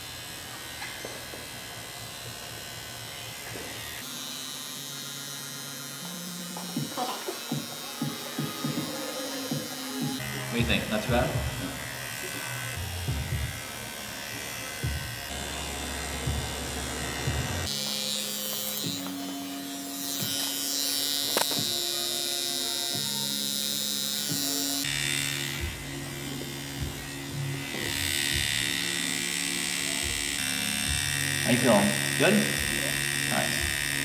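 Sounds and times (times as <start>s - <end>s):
tattoo machine buzzing: 0.0s - 34.0s.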